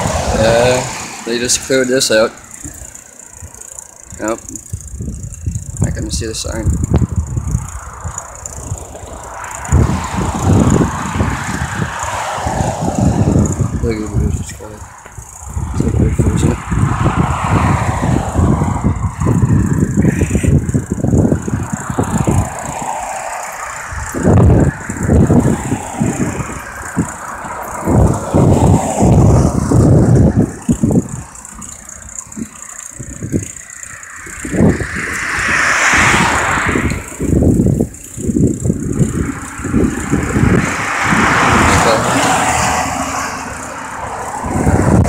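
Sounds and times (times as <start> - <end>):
road traffic: 0.0 - 45.0
vehicle passing: 0.0 - 45.0
wind buffeting microphone: 0.0 - 45.0.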